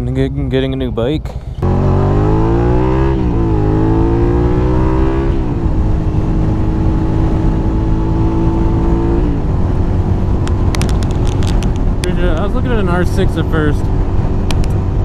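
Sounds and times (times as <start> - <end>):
motorcycle engine accelerating: 1.4 - 15.0.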